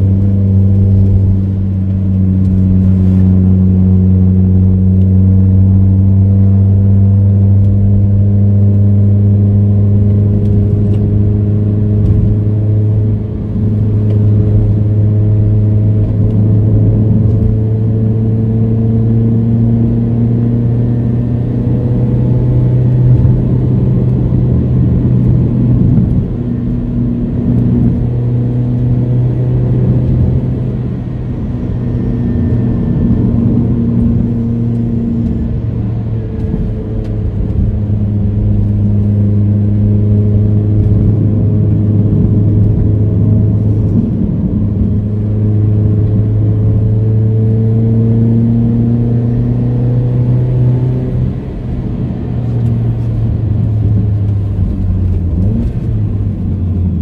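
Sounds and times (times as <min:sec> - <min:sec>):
car engine pulling steadily: 0:00.0 - 0:57.0
tyre and road noise: 0:00.0 - 0:57.0.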